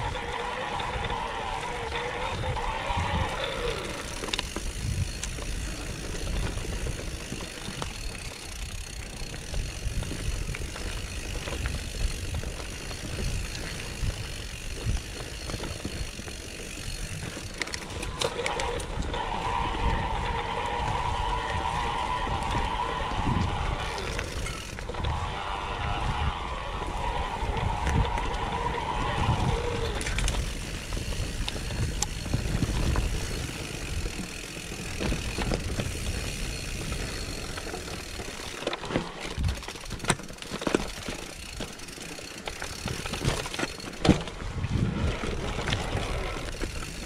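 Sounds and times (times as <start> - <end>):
wind rumble on microphone: 0.0 - 38.0, 44.0 - 47.0
bike rattling over stones: 0.0 - 47.0.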